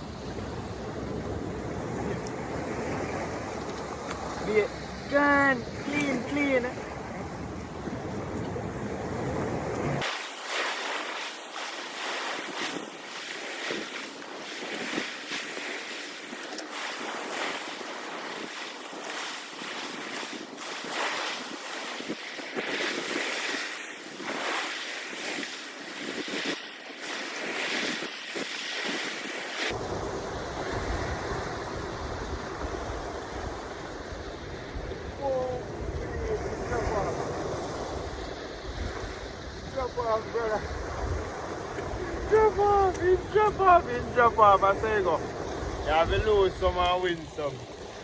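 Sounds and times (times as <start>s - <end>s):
wind rumble on microphone: 0.0s - 10.1s, 10.9s - 48.0s
surf washing in: 0.0s - 48.0s.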